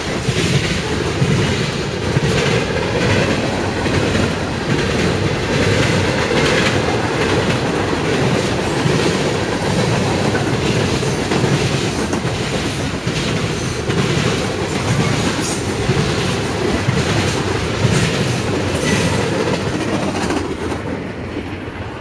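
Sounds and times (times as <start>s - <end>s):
wheels clicking over rail joints: 0.0s - 21.6s
freight train rumbling past: 0.0s - 22.0s.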